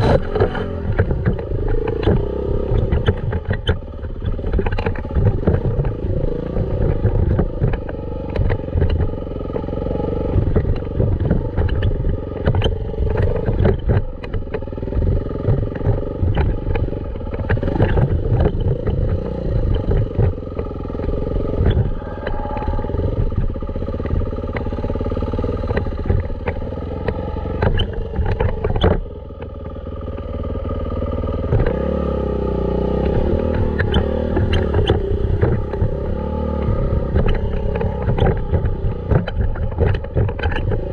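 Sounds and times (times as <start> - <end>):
bike knocking and rattling: 0.0 - 40.9
dirt bike engine running: 0.0 - 40.9.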